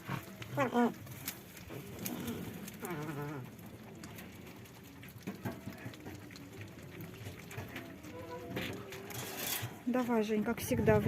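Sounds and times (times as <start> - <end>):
rustling: 0.0 - 10.3.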